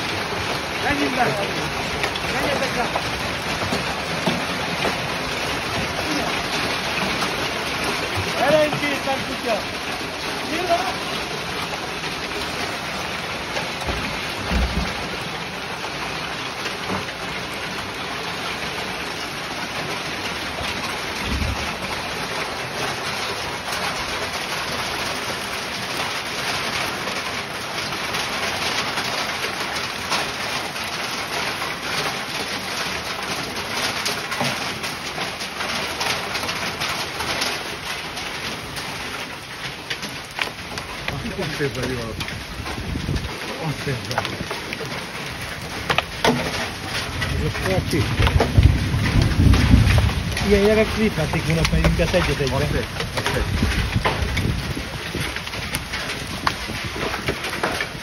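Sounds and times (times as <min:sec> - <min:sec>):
hailstones ticking on concrete: 0:00.0 - 0:58.0
heavy rain: 0:00.0 - 0:58.0.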